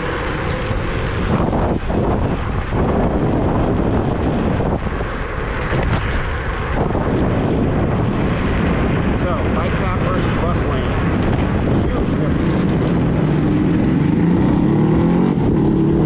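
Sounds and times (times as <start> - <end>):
road and traffic noise: 0.0 - 16.0
wind rushing over microphone: 0.0 - 16.0.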